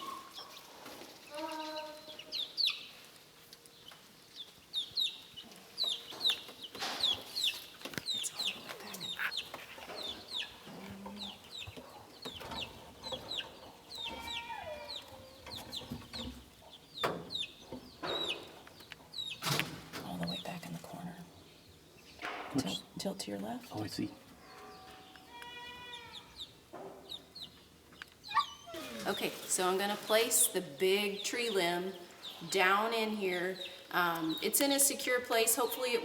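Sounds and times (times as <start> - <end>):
chickens clucking: 0.0 - 21.2, 21.8 - 36.0.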